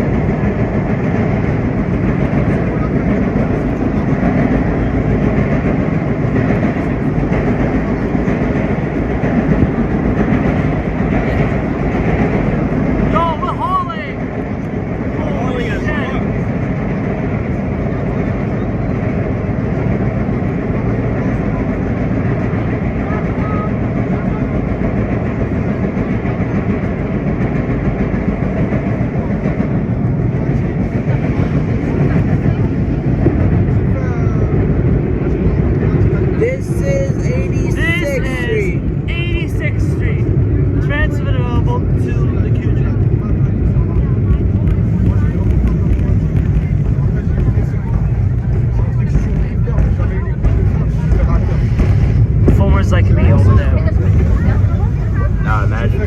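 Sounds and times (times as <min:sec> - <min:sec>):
subway car wheels rumbling: 0:00.0 - 0:56.0.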